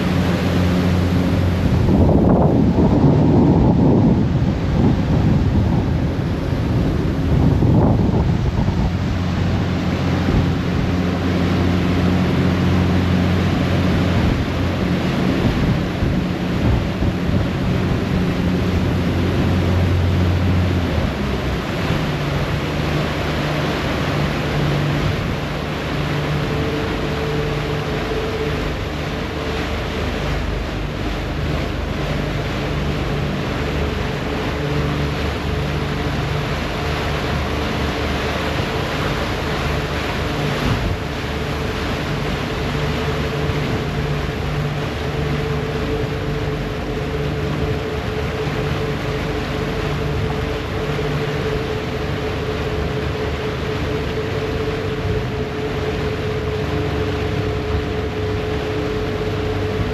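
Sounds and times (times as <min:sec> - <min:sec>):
boat engine droning: 0:00.0 - 0:59.9
churning propeller wake water: 0:00.0 - 0:59.9.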